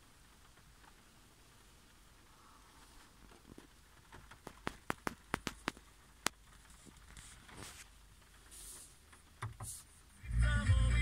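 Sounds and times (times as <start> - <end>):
raindrops ticking on car roof: 0.0 - 10.3.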